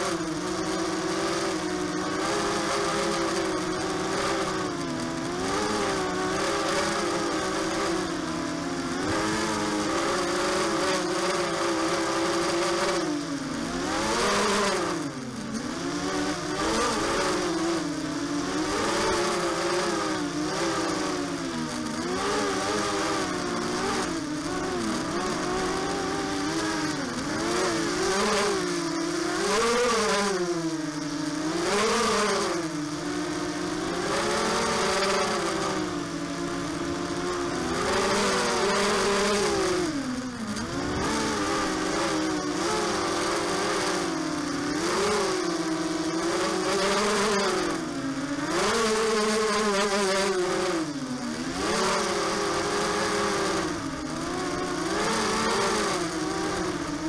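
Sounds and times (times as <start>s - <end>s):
quadcopter motors buzzing whine: 0.0s - 57.0s.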